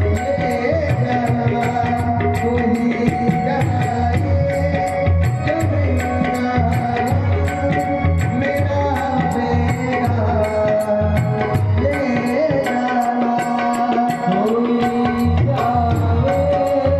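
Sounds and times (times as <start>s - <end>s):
tabla drum strokes: 0.0s - 16.9s.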